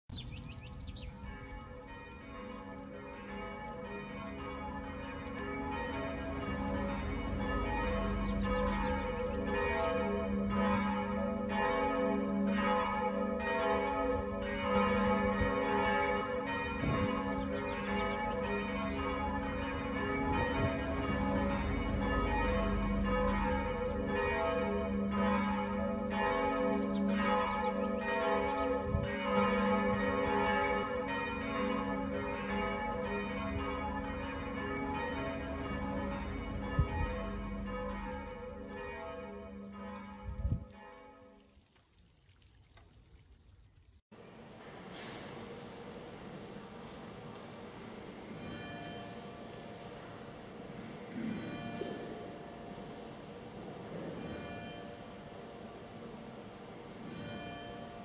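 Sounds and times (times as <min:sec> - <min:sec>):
church bells ringing: 0:00.3 - 0:41.3, 0:44.2 - 0:58.0.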